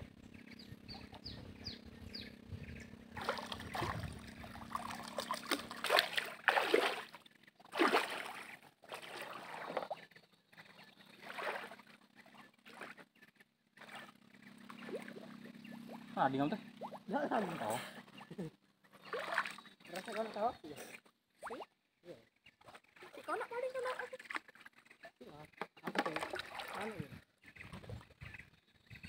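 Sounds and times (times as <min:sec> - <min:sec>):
water splashing and sloshing: 0:03.1 - 0:21.7, 0:22.5 - 0:28.3.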